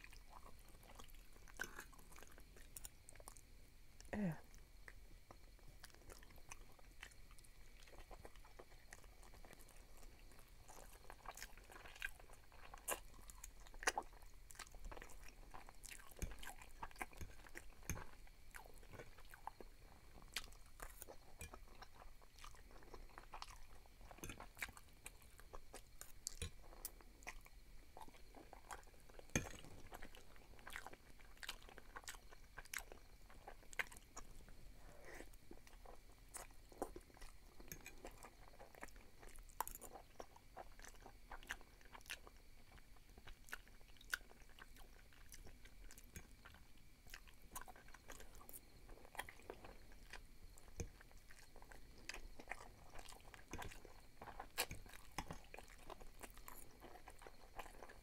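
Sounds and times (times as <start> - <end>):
faint chewing and mouth clicks: 0.0 - 58.0.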